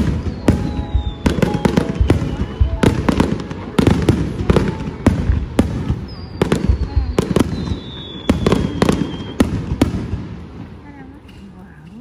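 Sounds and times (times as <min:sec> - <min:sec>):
fireworks bangs: 0:00.0 - 0:11.2.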